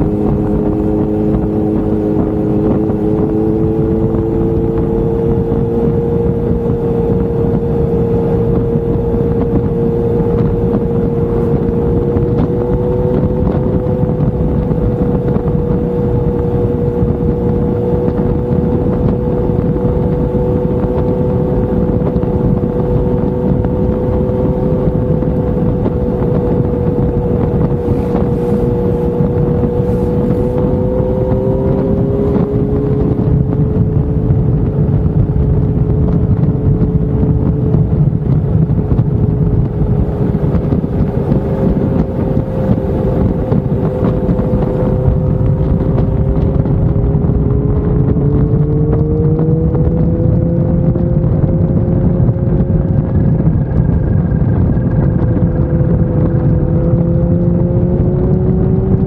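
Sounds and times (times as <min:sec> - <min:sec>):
motorcycle engine cruising: 0:00.0 - 0:59.0
wind rumble on microphone: 0:00.0 - 0:59.0.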